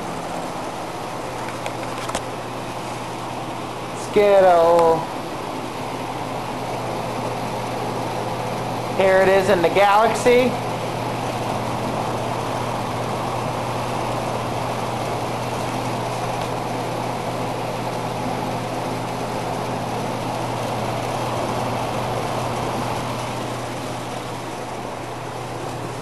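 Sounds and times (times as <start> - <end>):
fan air rushing: 0.0 - 26.0
fan motor hum: 0.0 - 26.0.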